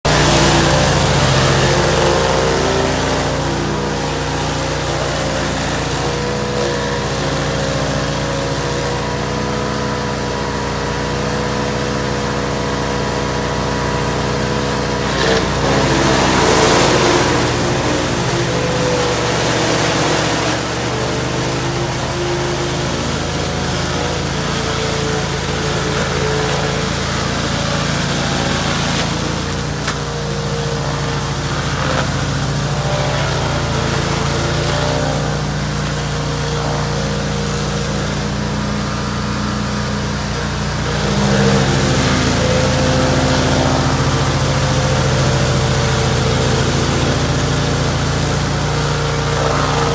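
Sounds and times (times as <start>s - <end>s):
chainsaw engine running: 0.0s - 49.9s.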